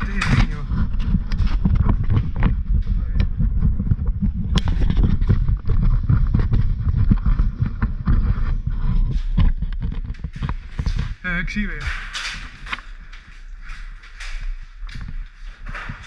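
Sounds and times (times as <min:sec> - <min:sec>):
rumbling wind on microphone: 0:00.0 - 0:16.0
sharp clicks and knocks: 0:00.0 - 0:16.0.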